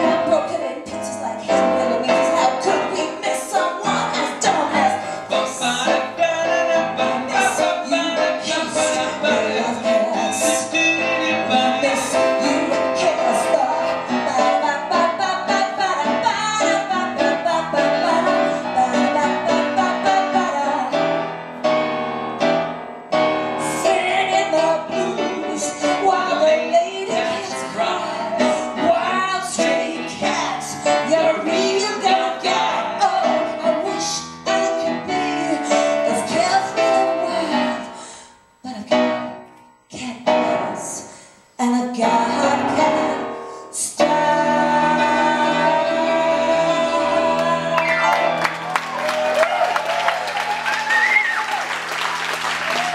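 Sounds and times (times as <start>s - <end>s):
woman singing into a microphone: 0.0s - 21.1s, 23.6s - 48.2s
grand piano: 0.0s - 52.9s.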